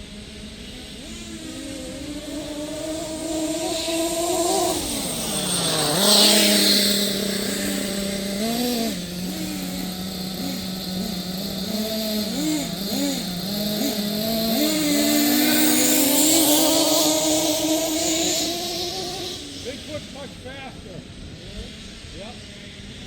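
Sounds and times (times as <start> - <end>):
engine throttle blips: 0.0 - 23.0
small nitro engines running: 0.0 - 23.0.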